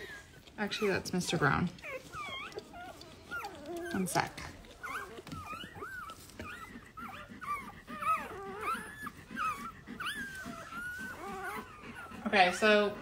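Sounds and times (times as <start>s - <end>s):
puppies squeaking and whimpering: 0.0s - 13.0s.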